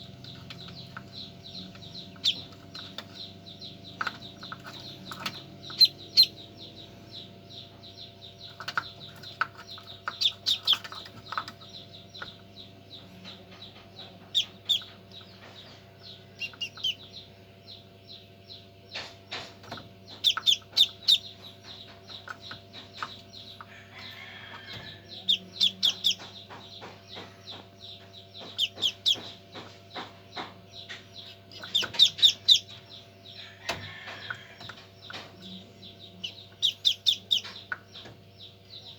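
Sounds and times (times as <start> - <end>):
ducklings peeping: 0.0 - 38.9
incubator machine hum: 0.0 - 38.9.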